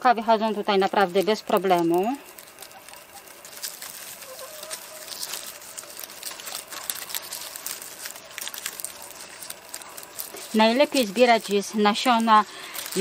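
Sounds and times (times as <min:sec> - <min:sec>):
dry seed heads crackling: 0:00.0 - 0:13.0.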